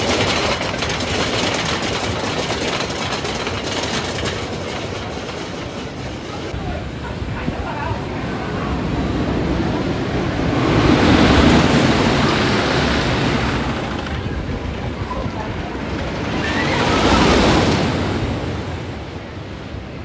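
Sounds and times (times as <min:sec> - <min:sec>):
roller coaster train rumbling: 0:00.0 - 0:20.0.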